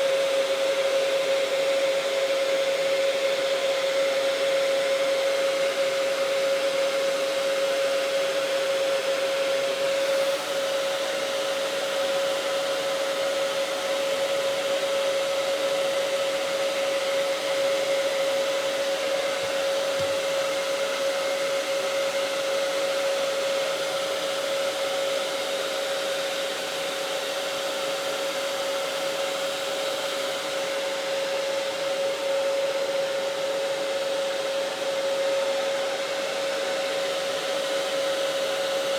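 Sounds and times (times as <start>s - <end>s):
hair dryer whining: 0.0s - 38.9s.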